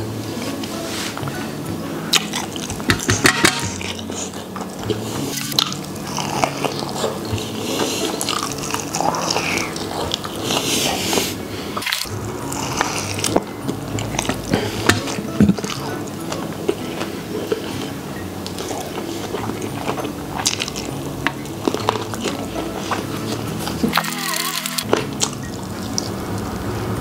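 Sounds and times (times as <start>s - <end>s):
person biting and chewing: 2.1s - 26.1s.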